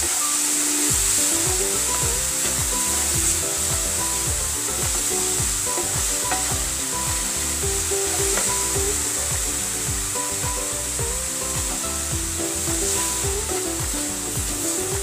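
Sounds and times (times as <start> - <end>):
background music with steady beat: 0.0 - 15.0
coconut sizzling in a frying pan: 0.0 - 15.0.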